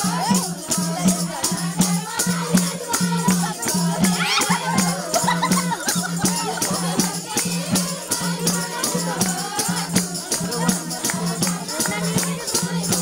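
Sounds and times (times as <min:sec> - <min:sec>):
fast percussion beat: 0:00.0 - 0:13.0
women singing: 0:00.0 - 0:13.0.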